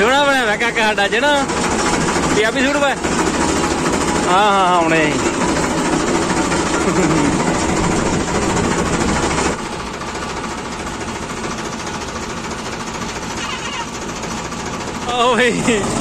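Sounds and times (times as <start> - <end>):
machinery drone: 0.0 - 16.0
tractor engine chattering: 0.0 - 16.0.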